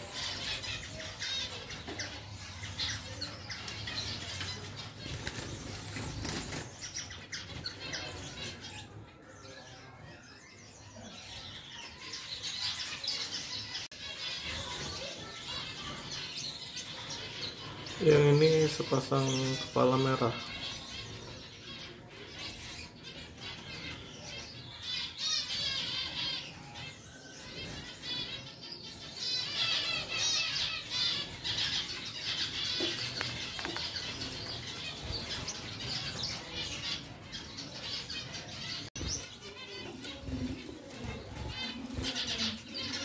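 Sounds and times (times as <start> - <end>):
finches chirping and twittering: 0.0 - 43.0.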